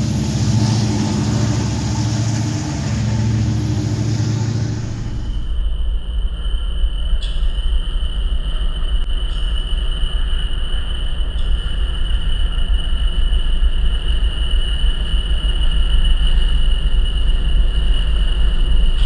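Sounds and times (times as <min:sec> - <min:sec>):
freight train low rumble: 0:00.0 - 0:19.0
high-pitched whine: 0:00.0 - 0:19.0.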